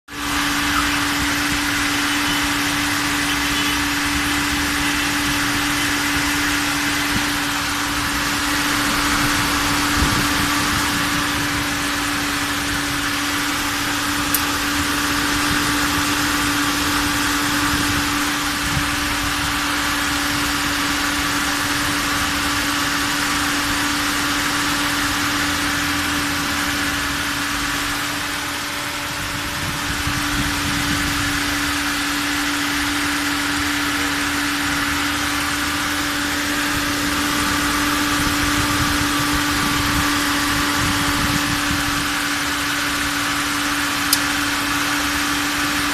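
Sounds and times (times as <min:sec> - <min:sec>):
radiator cooling fan humming: 0:00.1 - 0:45.9.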